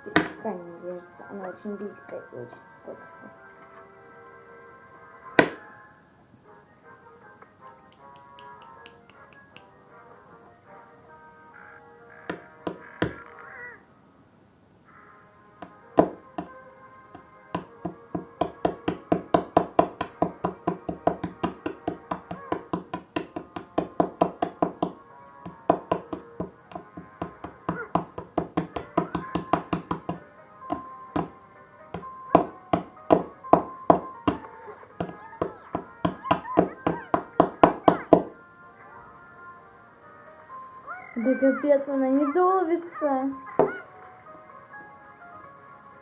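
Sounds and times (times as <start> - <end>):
background music: 0.0 - 46.0.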